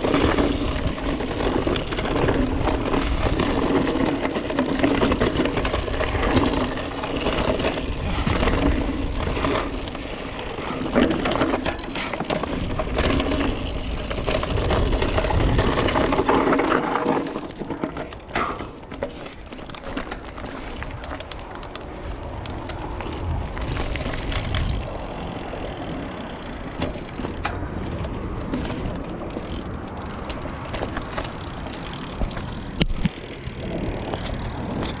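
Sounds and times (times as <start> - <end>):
bike knocks and rattles: 0.0 - 35.0
bike tyres crunching over stones: 0.0 - 35.0.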